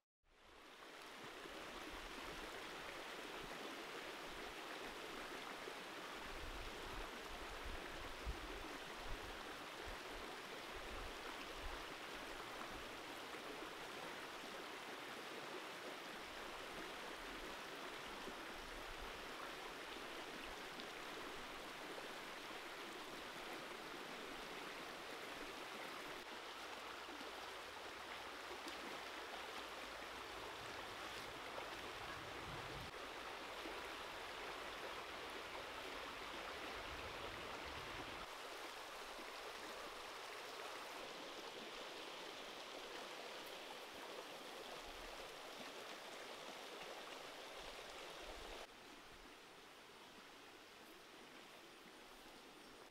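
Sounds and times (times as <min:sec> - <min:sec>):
stream running over rocks: 0:00.4 - 0:52.9.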